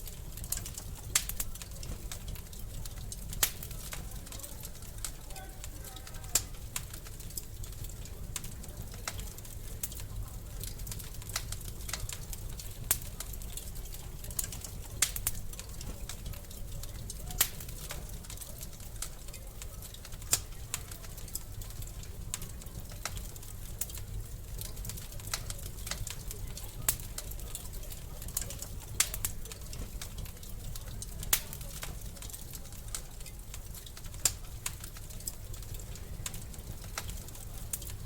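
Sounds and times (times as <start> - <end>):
low rumble of burning: 0.0 - 38.0
wood fire crackling: 0.0 - 38.0.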